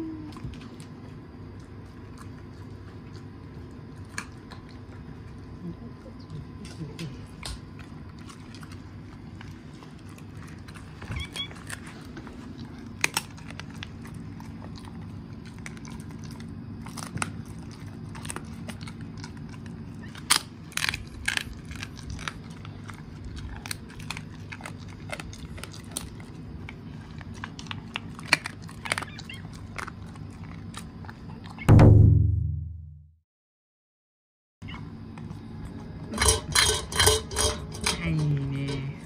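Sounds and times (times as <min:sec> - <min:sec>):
dog chewing bone: 0:00.3 - 0:31.6.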